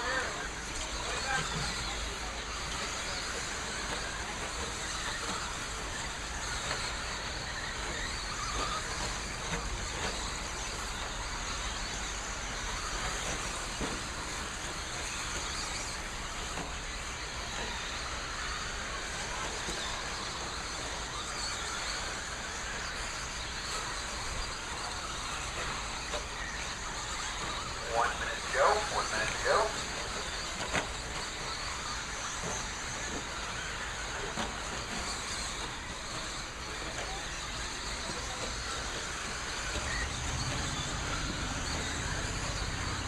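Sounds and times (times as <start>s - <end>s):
rc trucks racing: 0.0s - 43.0s.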